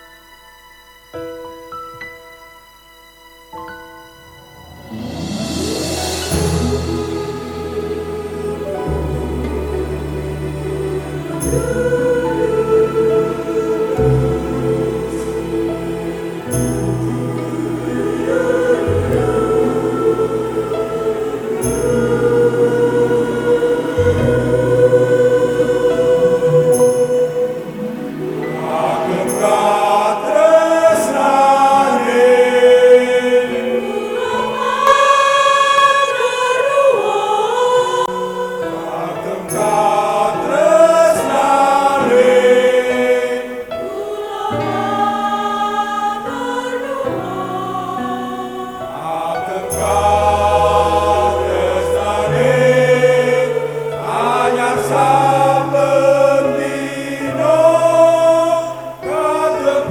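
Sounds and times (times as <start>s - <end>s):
choir singing a hymn: 3.0s - 59.9s.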